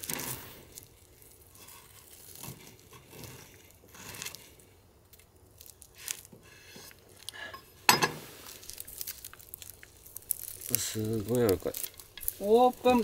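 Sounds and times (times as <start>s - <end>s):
knife crunching through husk: 0.0s - 7.4s, 8.2s - 13.0s.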